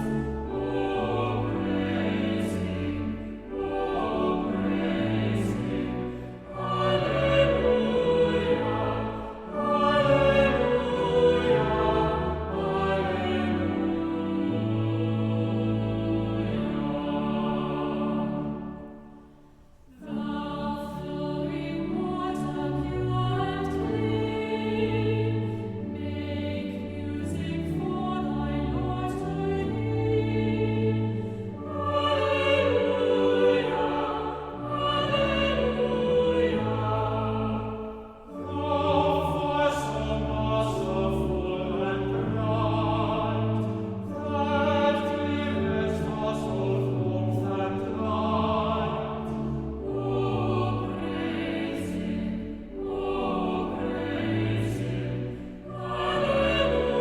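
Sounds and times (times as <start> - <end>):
choir singing a hymn: 0.0 - 57.0
sustained accompaniment: 0.0 - 57.0.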